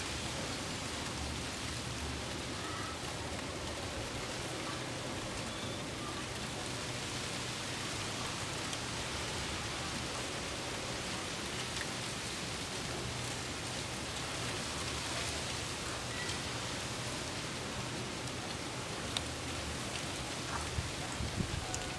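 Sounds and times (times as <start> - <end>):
wind rustling laundry and fronds: 0.0 - 21.9.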